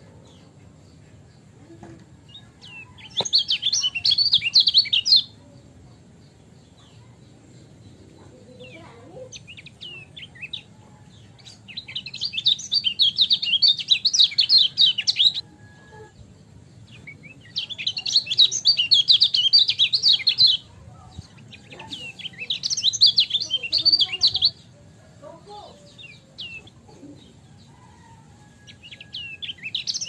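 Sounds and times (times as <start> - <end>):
bird singing high chattering song: 0.0 - 30.0.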